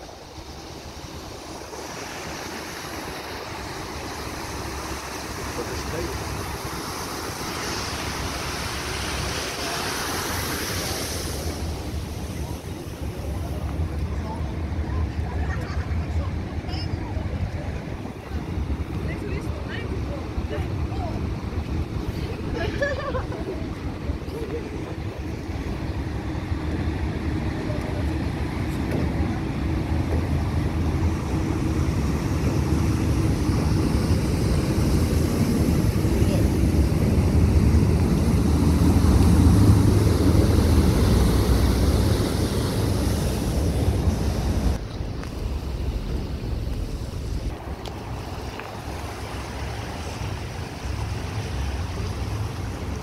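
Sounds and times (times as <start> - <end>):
diesel boat engine droning: 0.0 - 53.0
propeller wash churning: 0.0 - 53.0
water rushing and foaming: 0.0 - 53.0
wind rumble on microphone: 0.0 - 53.0.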